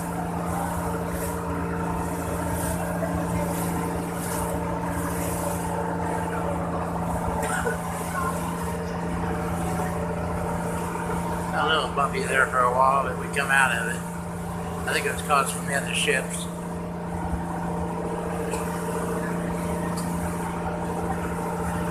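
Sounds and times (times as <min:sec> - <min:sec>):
boat engine droning: 0:00.0 - 0:21.9
water splashing against hull: 0:00.0 - 0:21.9.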